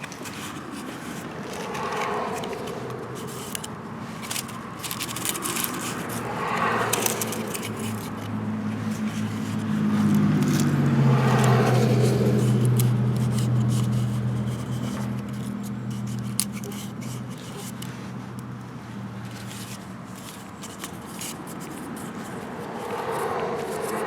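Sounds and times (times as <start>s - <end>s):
clicks and scrapes of parts: 0.0s - 18.2s, 19.2s - 24.0s.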